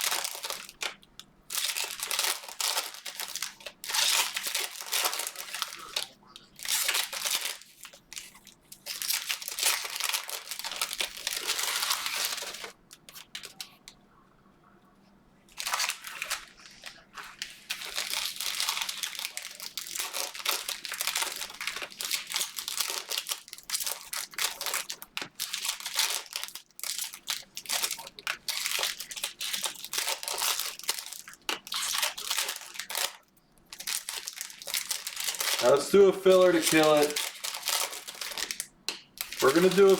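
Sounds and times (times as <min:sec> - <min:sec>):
foil wrappers crinkling and tearing: 0:00.0 - 0:13.8, 0:15.5 - 0:39.9.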